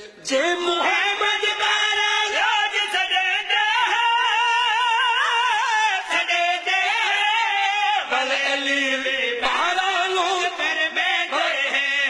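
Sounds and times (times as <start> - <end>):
men singing devotional song: 0.0 - 12.0.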